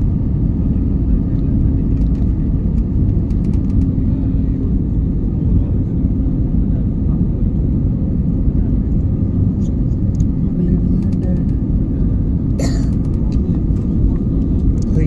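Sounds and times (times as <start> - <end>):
airliner engines rumbling: 0.0 - 15.0.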